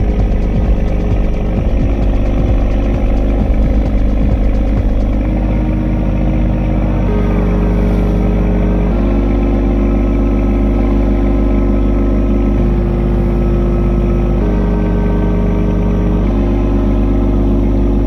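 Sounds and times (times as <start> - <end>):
boat engine droning: 0.0 - 18.0
sustained tones shifting pitch: 0.0 - 18.0.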